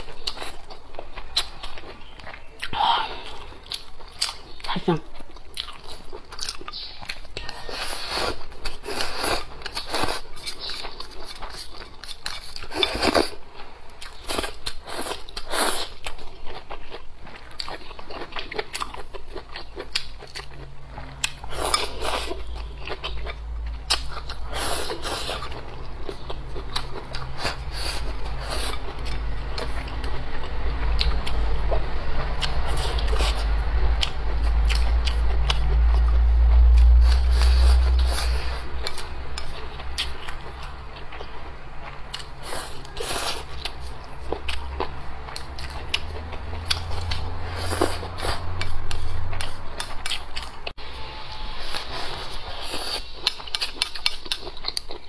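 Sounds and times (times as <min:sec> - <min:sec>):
chewing and biting food: 0:00.0 - 0:50.8, 0:51.8 - 0:55.0.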